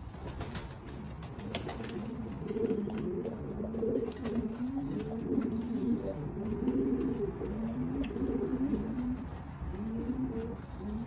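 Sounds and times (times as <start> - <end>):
pigeon cooing: 1.0 - 11.0.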